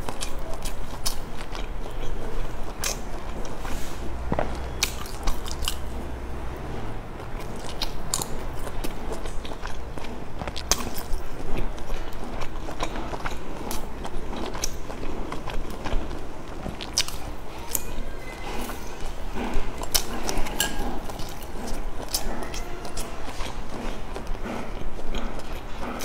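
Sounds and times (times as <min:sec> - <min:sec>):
mouth clicks: 0:00.0 - 0:26.0
person biting and chewing food: 0:00.0 - 0:26.0.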